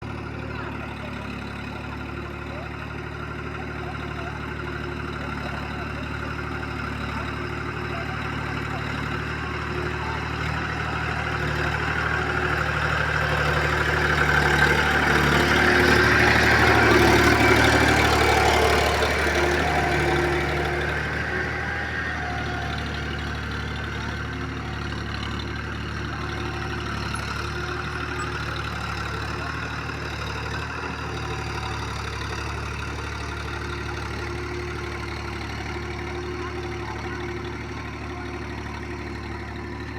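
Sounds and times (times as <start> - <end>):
old tractor engine running: 0.0 - 39.9.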